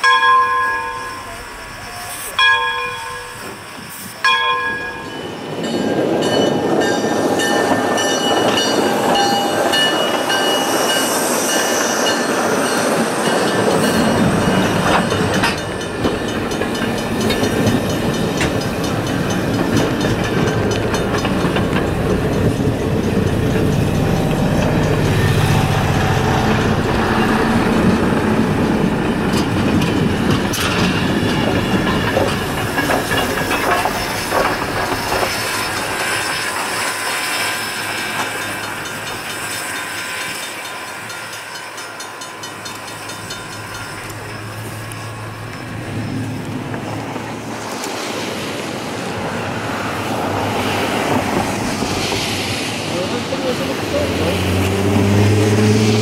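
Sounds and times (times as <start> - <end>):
train wheels clattering over rail joints: 2.4 - 56.0.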